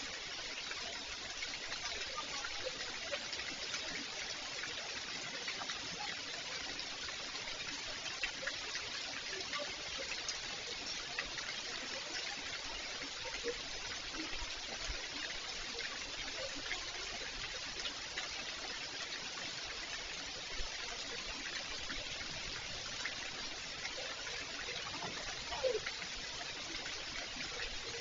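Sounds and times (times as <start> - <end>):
steady rain falling: 0.0 - 28.0
trickling water: 0.0 - 28.0
water drips ticking: 0.0 - 28.0.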